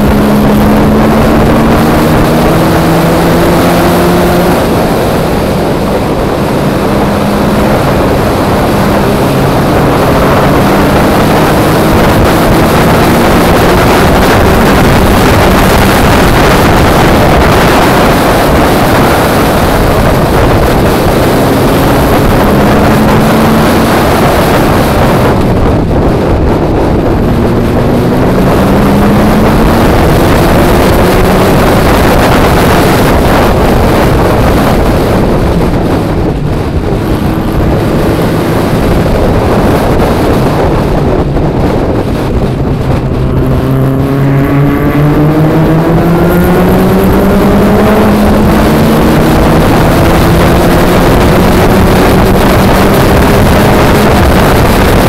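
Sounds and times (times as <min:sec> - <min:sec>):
car engine revving high: 0:00.0 - 0:55.0
wind and road noise: 0:00.0 - 0:55.0.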